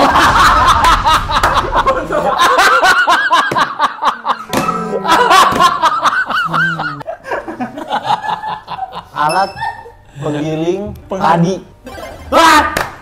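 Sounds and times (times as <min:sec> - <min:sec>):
young men laughing: 0:00.0 - 0:10.1, 0:11.8 - 0:12.8.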